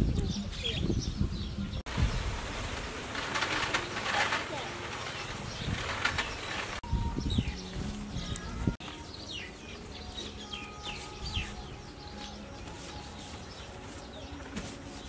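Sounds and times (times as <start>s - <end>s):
small birds chirping: 0.0s - 2.4s, 3.2s - 15.0s.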